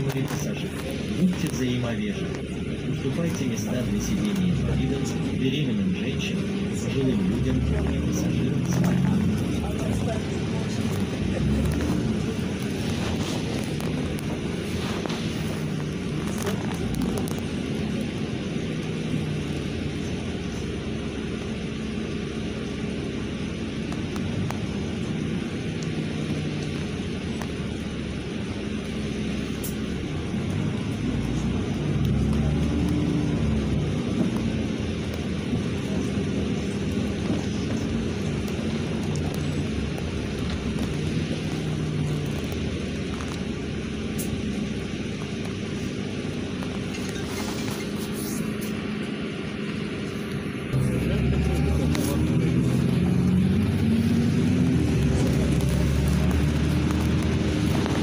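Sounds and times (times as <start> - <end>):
bus engine drone: 0.0 - 58.0
road rumble: 0.0 - 58.0.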